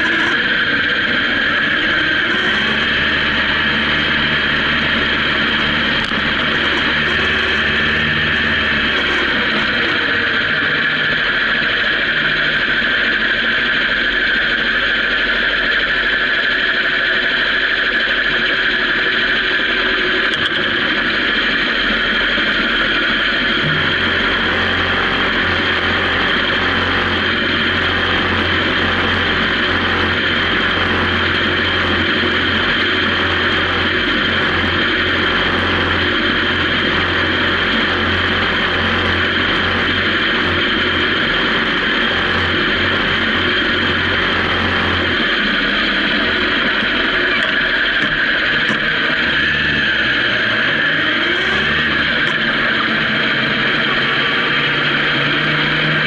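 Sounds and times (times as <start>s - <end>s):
deep hum: 0.0s - 56.0s.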